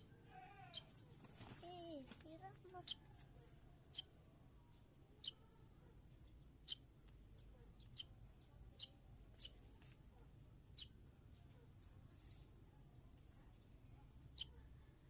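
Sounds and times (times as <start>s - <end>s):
small bird chirping: 0.0s - 9.8s, 10.6s - 15.0s.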